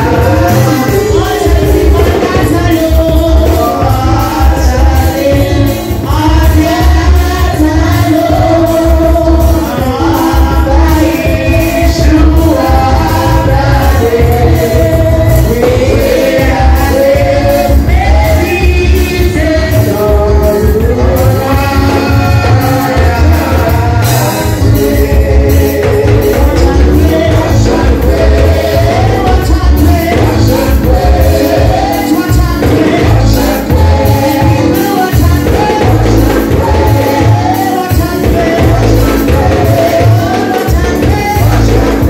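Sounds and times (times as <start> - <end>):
heavy bass beat: 0.0 - 42.0
live band playing worship music: 0.0 - 42.0
person singing: 0.0 - 42.0
steady percussion: 0.0 - 42.0.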